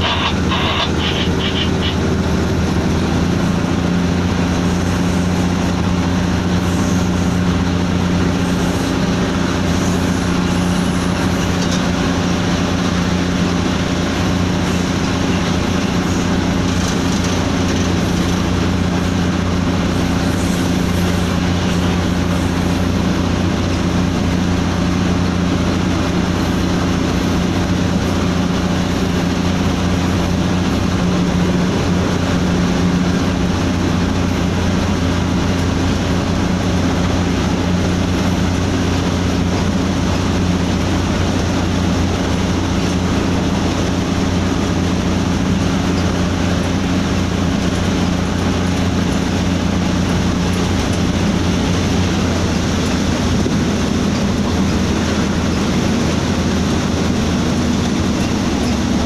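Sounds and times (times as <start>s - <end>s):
low engine drone: 0.0s - 59.0s
train rumbling along track: 0.0s - 59.0s.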